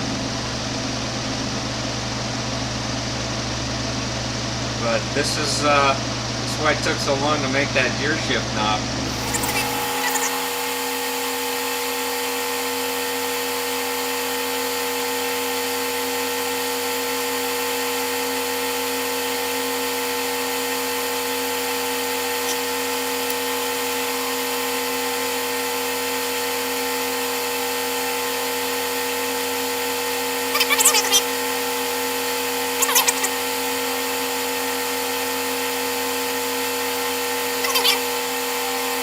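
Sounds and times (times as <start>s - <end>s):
motor hum: 0.0s - 39.0s.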